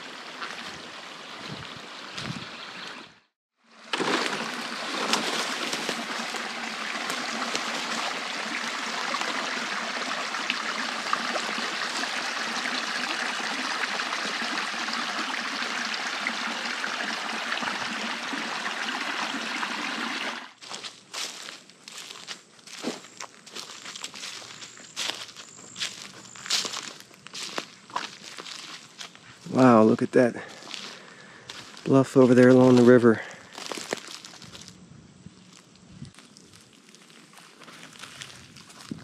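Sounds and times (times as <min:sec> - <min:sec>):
creek water running: 0:00.0 - 0:22.1, 0:23.5 - 0:34.5.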